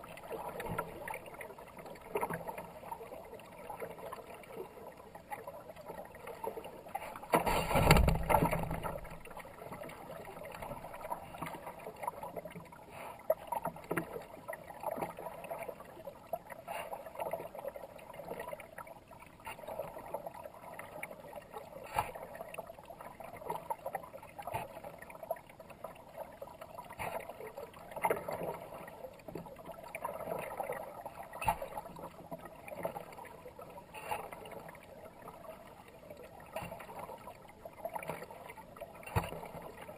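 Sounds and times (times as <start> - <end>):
paddle splashing in river water: 0.0 - 15.6, 21.7 - 25.4, 26.8 - 39.9.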